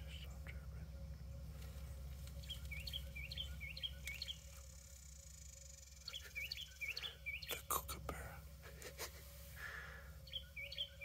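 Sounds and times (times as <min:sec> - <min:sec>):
songbird singing swooping notes: 0:00.0 - 0:07.9, 0:09.4 - 0:11.0
faint low hum: 0:00.0 - 0:11.0.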